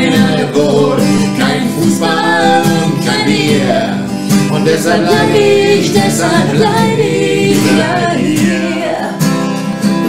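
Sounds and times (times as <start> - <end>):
strummed acoustic guitar: 0.0 - 10.0
voices singing pop song: 0.0 - 10.0.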